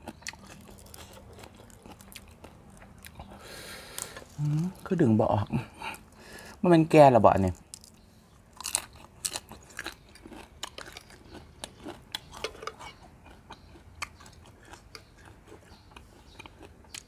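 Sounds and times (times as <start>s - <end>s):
crisp chewing crunches: 0.0s - 4.9s, 7.5s - 17.0s.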